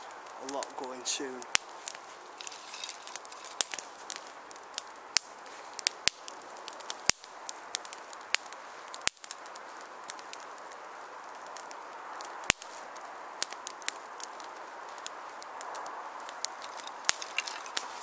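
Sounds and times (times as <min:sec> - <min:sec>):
twig fire crackling: 0:00.0 - 0:18.0.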